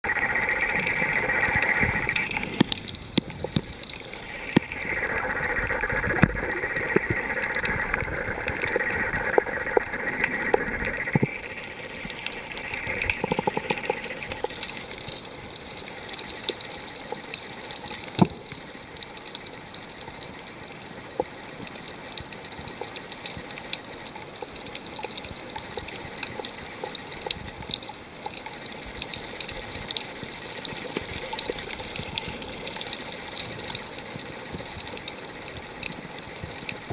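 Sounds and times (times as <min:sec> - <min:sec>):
underwater clicks and crackles: 0:00.1 - 0:36.9.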